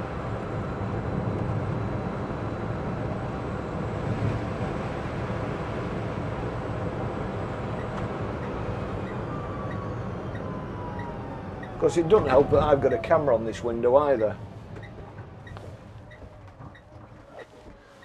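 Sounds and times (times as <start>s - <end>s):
tyres and rain rumble in car cabin: 0.0s - 18.0s.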